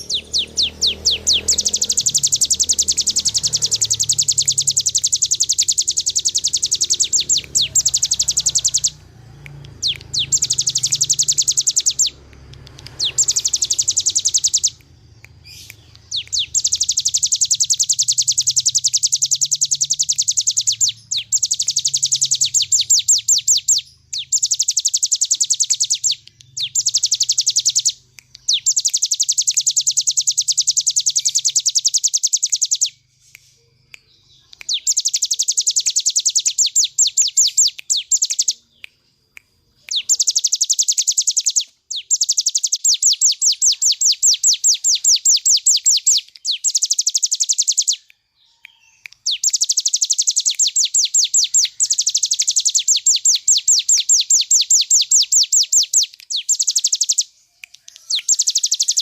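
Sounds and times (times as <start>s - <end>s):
bird singing rapid trills: 0.0s - 59.0s.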